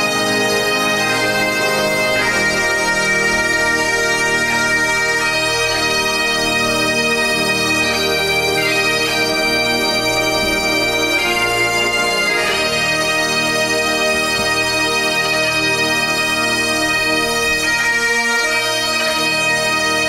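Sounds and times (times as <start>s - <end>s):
bagpipes playing slow melody: 0.0s - 20.0s.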